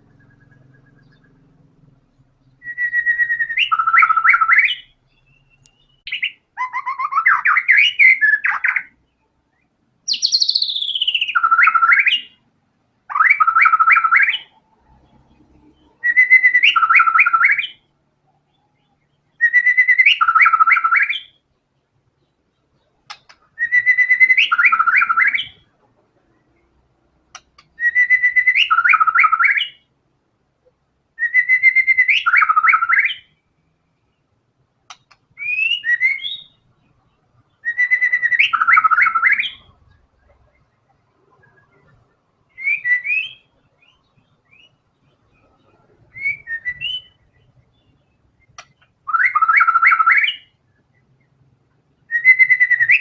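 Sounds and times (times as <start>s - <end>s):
songbird singing whistled phrases: 0.0s - 1.6s, 2.4s - 12.4s, 13.1s - 17.9s, 18.5s - 21.4s, 22.2s - 25.7s, 27.3s - 29.9s, 31.2s - 34.2s, 35.4s - 40.7s, 41.3s - 51.2s, 52.0s - 53.0s.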